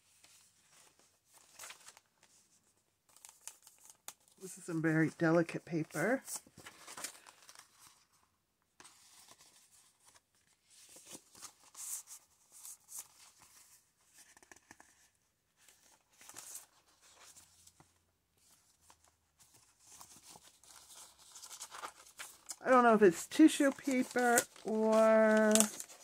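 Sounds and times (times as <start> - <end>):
paper and card rustling: 0.0 - 26.0.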